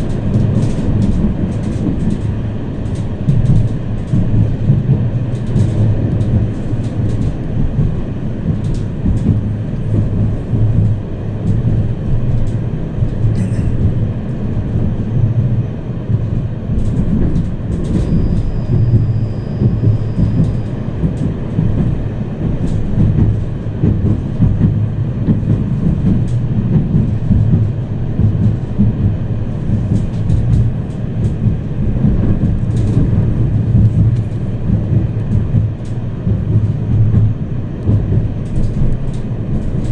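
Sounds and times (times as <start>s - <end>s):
tram wheels rumbling on rails: 0.0s - 39.9s.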